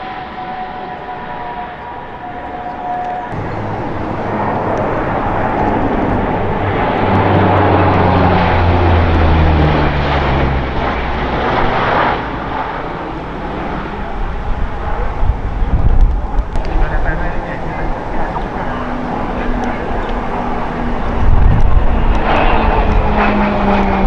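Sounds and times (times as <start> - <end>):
aircraft flying overhead: 0.0 - 24.0.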